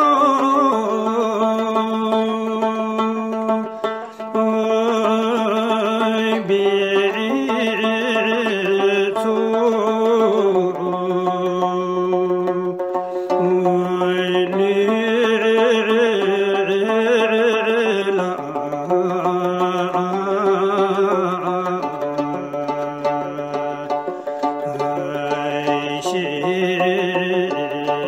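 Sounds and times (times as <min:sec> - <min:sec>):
instrumental accompaniment: 0:00.0 - 0:28.0
person singing long wavering notes: 0:00.0 - 0:28.0.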